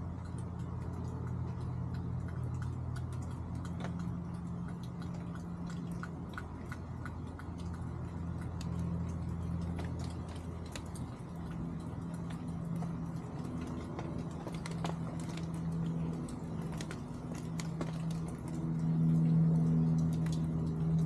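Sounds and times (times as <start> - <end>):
chickens pecking: 0.0 - 19.0
steady low hum: 0.0 - 21.0.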